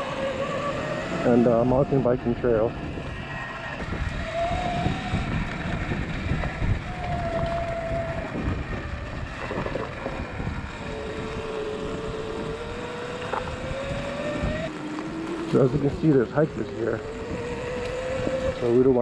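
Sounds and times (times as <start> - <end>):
electric dirt bike motor whining: 0.0 - 19.0.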